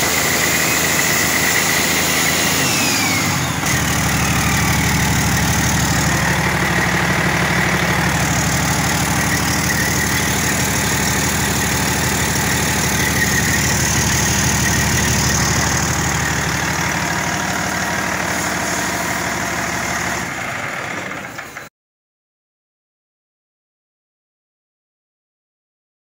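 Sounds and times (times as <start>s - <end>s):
diesel engine idling: 0.0s - 21.6s.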